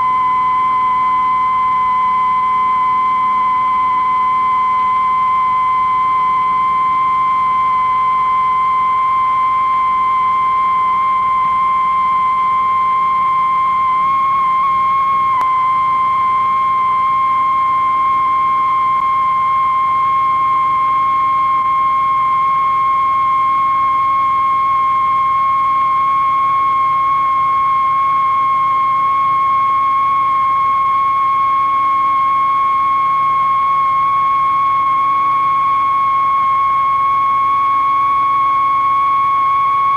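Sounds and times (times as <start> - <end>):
high-pitched sine-wave tone: 0.0 - 39.9.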